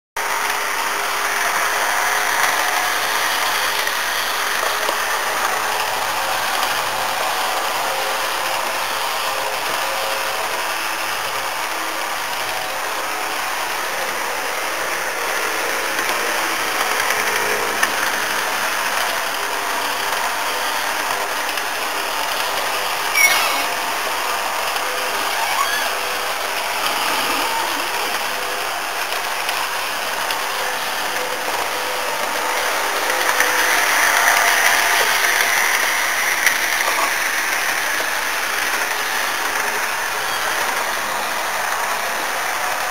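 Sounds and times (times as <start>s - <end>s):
model train motor whirring: 0.2s - 42.9s.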